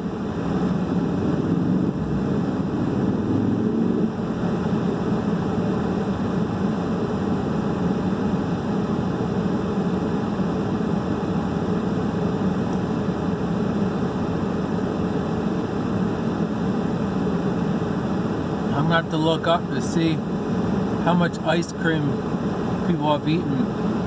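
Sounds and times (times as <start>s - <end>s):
heater blower hum: 0.0s - 24.0s.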